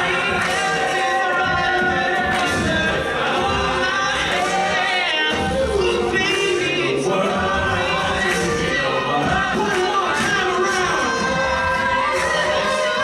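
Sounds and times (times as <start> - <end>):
male a cappella group singing: 0.0 - 13.0.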